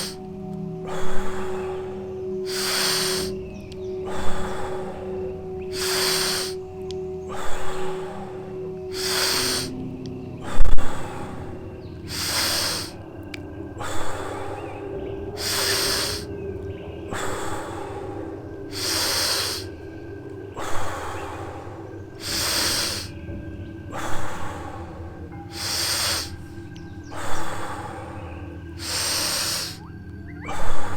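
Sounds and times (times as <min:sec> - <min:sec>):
forceful deep breathing: 0:00.0 - 0:30.9.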